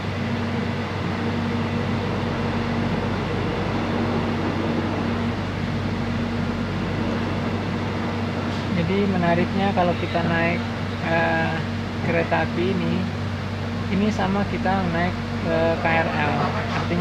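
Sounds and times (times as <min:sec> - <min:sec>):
electric train humming and rumbling: 0:00.0 - 0:17.0.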